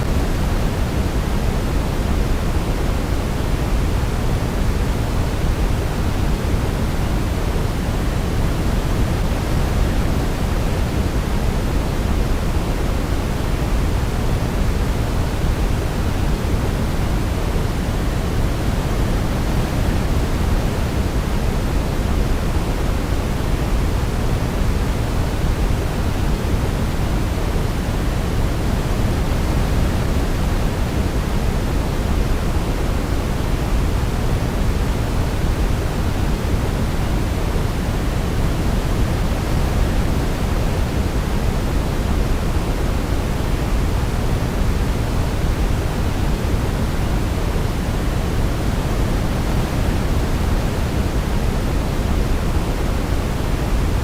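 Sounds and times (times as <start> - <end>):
deep pink noise hiss: 0.0 - 54.0.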